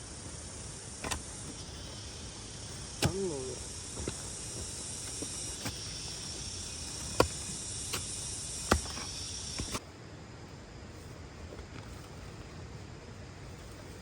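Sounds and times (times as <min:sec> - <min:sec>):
high-pitched insect chorus: 0:00.0 - 0:11.3.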